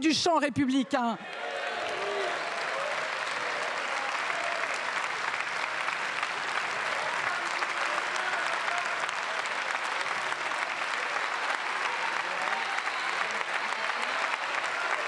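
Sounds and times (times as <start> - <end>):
crowd applauding: 1.2 - 15.0.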